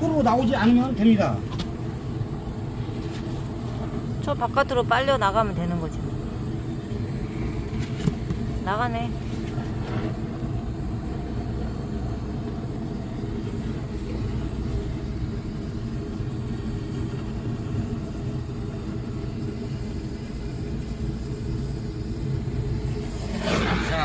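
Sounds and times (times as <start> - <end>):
wood fire rumbling in a stove: 0.0 - 24.0.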